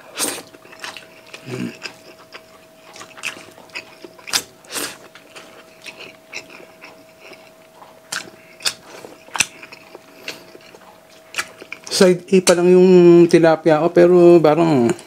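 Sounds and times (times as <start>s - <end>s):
faint steady hum: 0.0s - 15.0s
mouths chewing and smacking: 0.1s - 12.6s.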